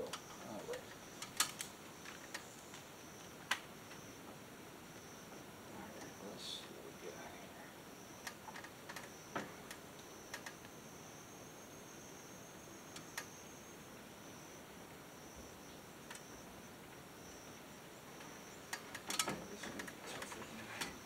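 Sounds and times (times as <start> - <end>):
faint insects droning: 0.0 - 21.0.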